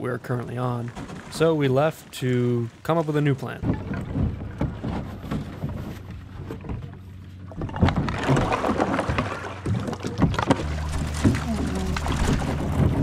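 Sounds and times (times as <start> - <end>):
water sloshing against canoe hull: 0.2 - 13.0.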